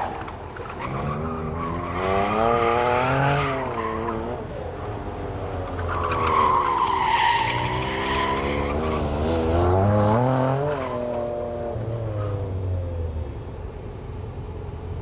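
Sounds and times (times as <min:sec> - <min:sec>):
sports car engine revving: 0:00.0 - 0:14.7.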